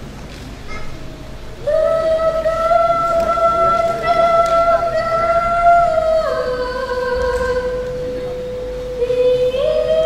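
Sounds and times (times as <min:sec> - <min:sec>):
woman singing long note: 0:01.6 - 0:10.0.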